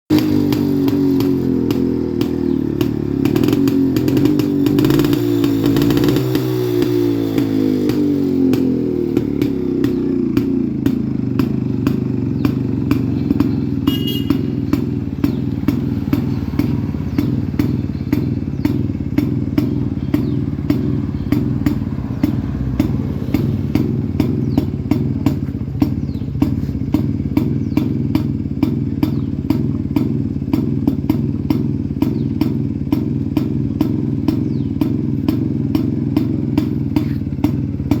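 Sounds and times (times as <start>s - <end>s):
motorcycle engine idling: 0.1s - 38.0s.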